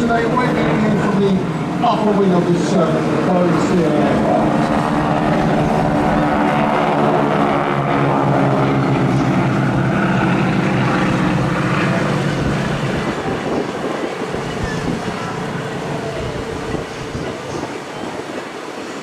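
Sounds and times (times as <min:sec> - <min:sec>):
biplane engines droning: 0:00.0 - 0:19.0.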